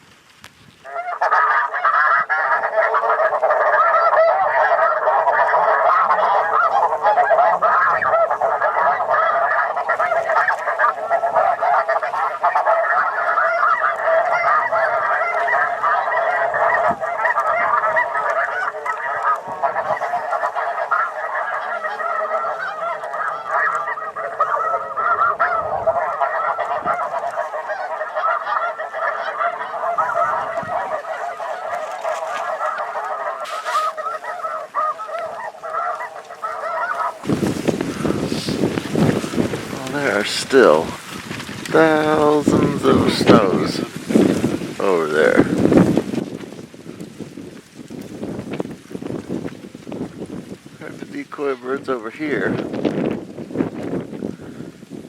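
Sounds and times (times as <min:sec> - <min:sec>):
flock of geese honking: 0:00.8 - 0:55.0.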